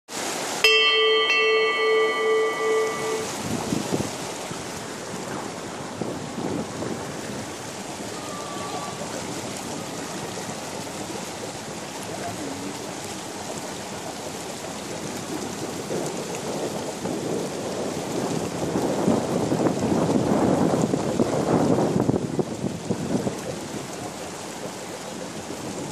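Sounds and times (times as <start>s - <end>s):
car wading through floodwater: 0.1s - 25.9s.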